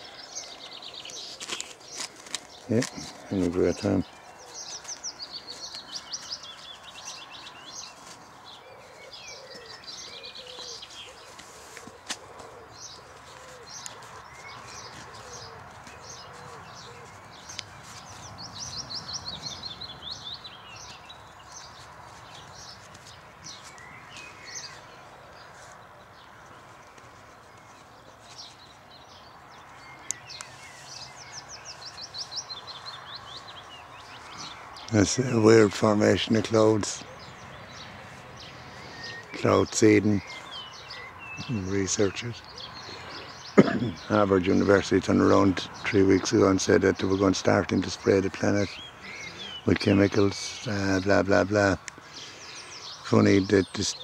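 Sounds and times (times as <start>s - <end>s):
songbirds trilling: 0.0s - 54.0s.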